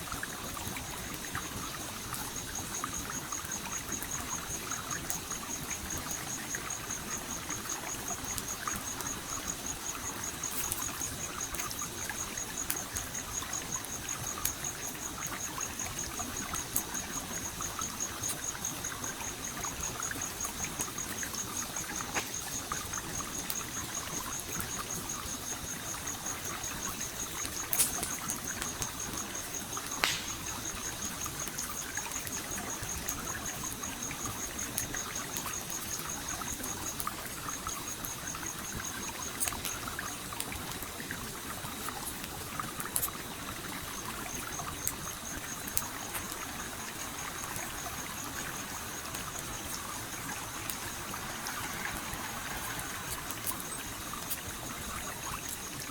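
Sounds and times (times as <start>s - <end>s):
stream water flowing: 0.0s - 55.9s
campfire crackling and popping: 0.2s - 55.9s.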